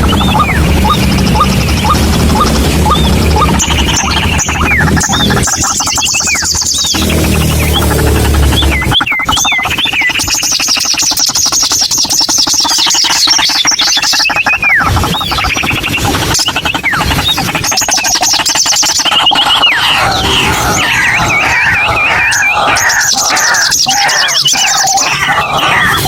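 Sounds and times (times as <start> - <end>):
bird whistled trills: 0.0 - 26.0
birds calling harshly: 0.0 - 26.0.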